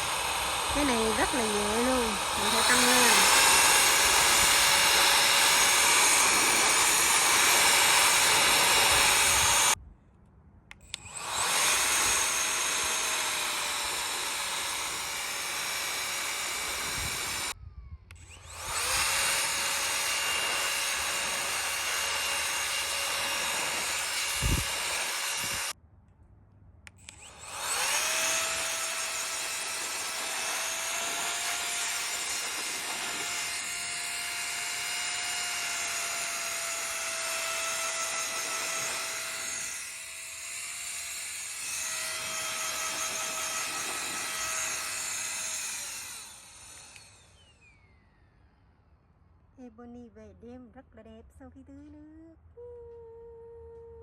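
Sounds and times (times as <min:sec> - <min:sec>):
electric air duster whine: 0:00.0 - 0:09.8, 0:10.8 - 0:25.8, 0:27.0 - 0:48.6.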